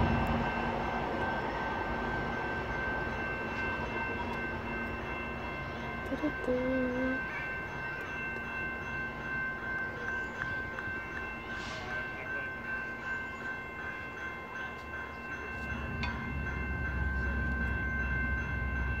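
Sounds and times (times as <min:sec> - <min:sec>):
level crossing bell ringing: 0:00.0 - 0:19.0.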